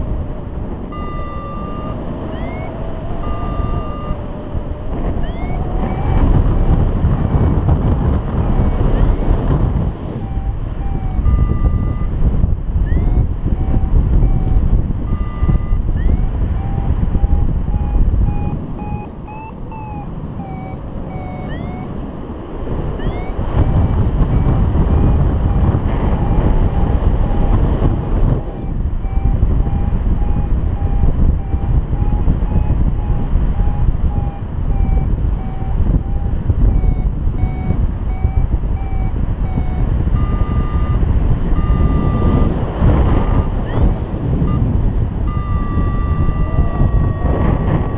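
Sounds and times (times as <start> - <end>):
variometer beeping: 0.0 - 47.9
wind noise on microphone: 0.0 - 47.9.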